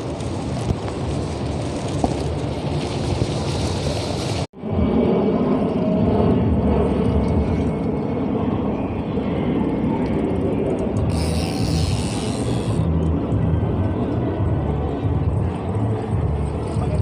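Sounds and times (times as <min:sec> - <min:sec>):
road noise while cycling: 0:00.0 - 0:17.0.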